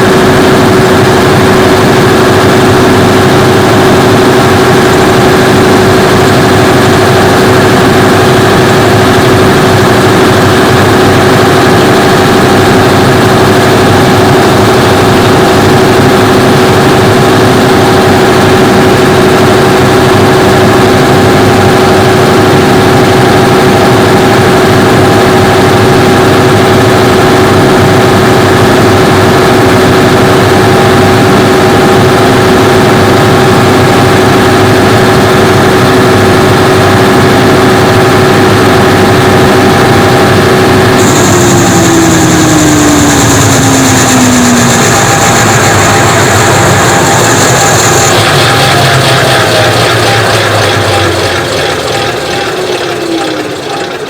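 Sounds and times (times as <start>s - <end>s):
diesel generator running: 0.0s - 54.0s
steady whining tone: 0.0s - 54.0s.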